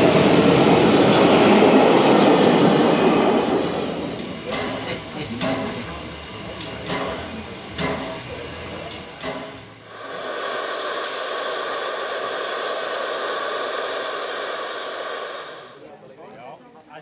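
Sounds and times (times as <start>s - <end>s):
steam locomotive venting steam: 0.0s - 15.8s.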